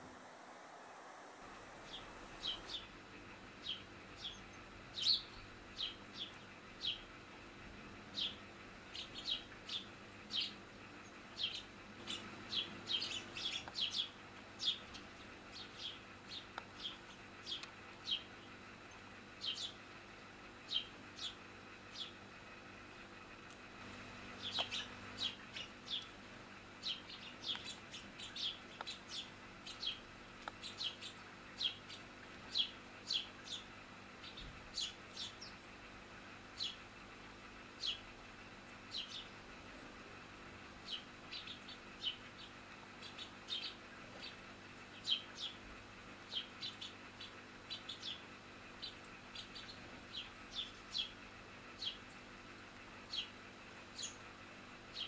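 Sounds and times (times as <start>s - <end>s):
sparrows chirping: 1.5s - 55.0s.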